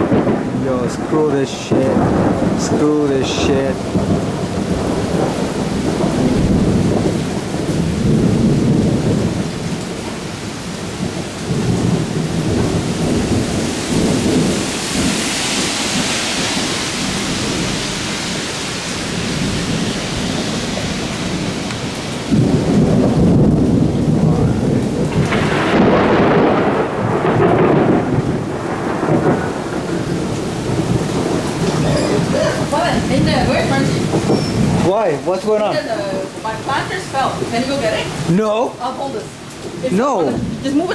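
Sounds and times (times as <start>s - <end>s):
rain pouring down: 0.0s - 40.9s
rolling thunder: 0.0s - 40.9s.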